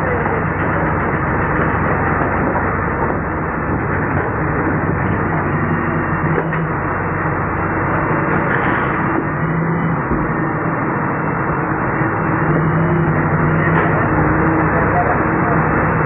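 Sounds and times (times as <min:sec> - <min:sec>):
excavator diesel engine and hydraulics: 0:00.0 - 0:16.0.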